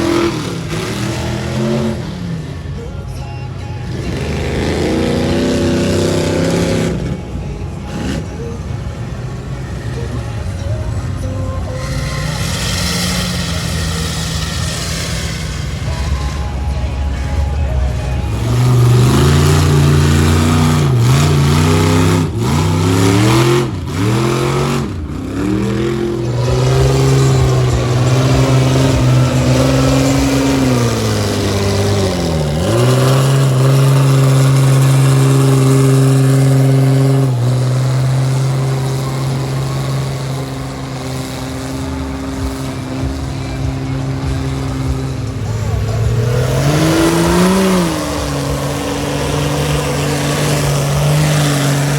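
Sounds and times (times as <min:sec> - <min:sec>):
truck engine revving hard: 0:00.0 - 0:51.9.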